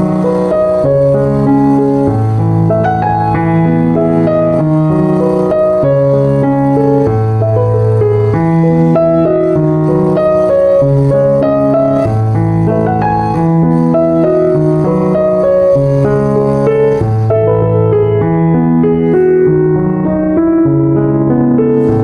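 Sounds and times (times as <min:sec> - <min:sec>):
background piano music: 0:00.0 - 0:22.0.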